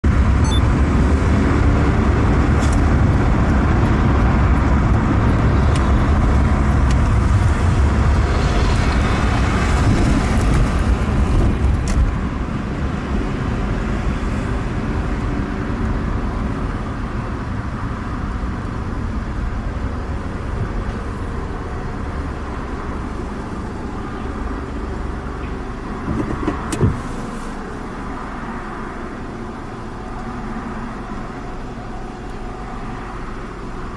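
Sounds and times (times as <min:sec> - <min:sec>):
car engine rumble in cabin: 0:00.0 - 0:33.9.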